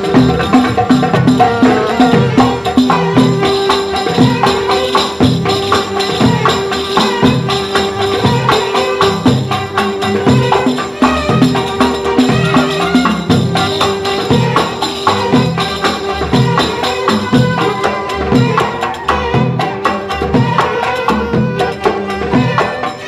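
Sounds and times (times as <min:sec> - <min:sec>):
hand drums steady beat: 0:00.0 - 0:23.0
violin section holding long notes: 0:01.4 - 0:23.0.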